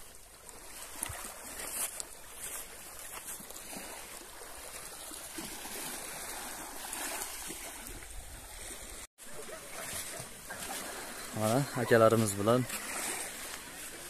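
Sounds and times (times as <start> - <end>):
waves lapping over rocks: 0.0 - 14.0.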